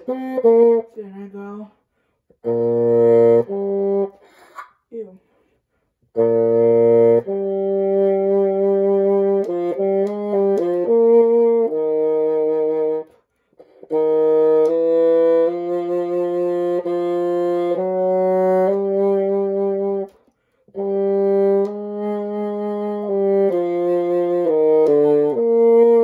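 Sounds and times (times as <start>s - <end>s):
bassoon solo melody: 0.0s - 1.7s, 2.4s - 4.3s, 6.1s - 26.0s.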